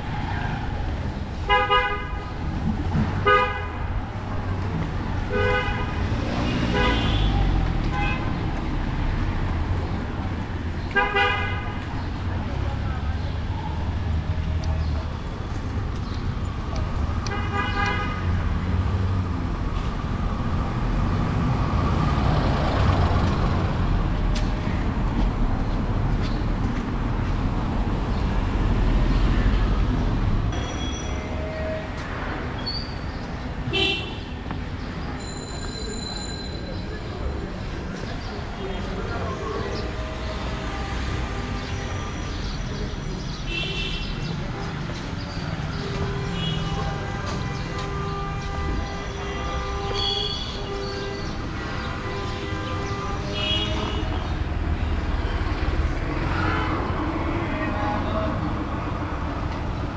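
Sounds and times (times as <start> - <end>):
traffic engine rumble: 0.0 - 59.9.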